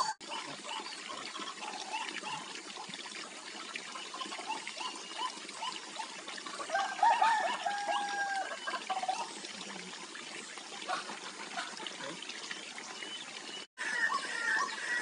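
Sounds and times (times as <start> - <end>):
waterhen calls: 0.0 - 15.0.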